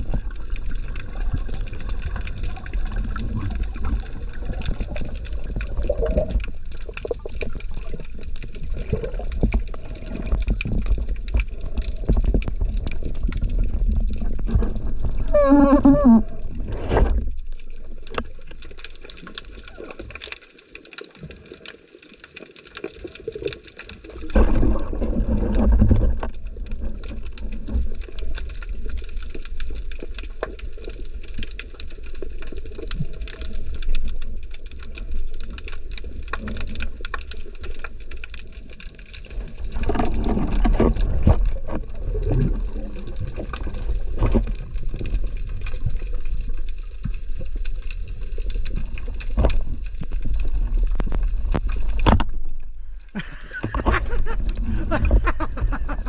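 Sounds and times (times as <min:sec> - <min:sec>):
water bubbling underwater: 0:00.0 - 0:20.4, 0:23.1 - 0:56.0
crackle of fine clicks: 0:00.0 - 0:56.0.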